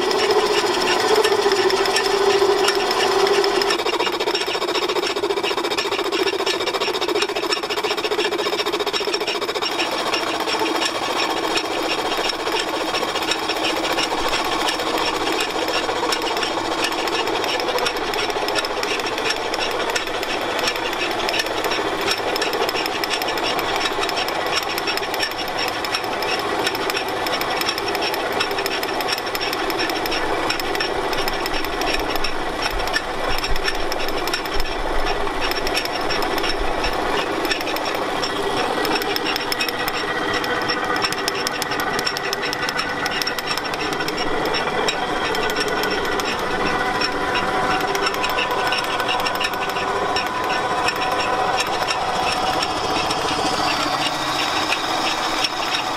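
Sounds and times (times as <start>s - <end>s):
milling machine clatter: 0.0s - 55.9s.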